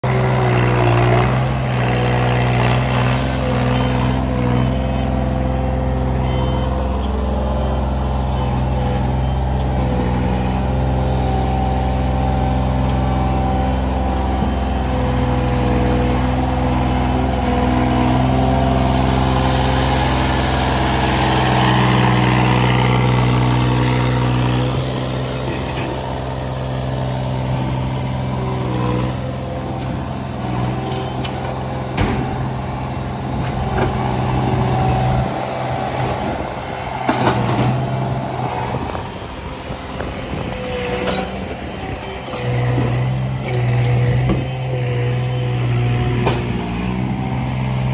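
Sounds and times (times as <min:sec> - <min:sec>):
loader engine running: 0:00.0 - 0:47.9.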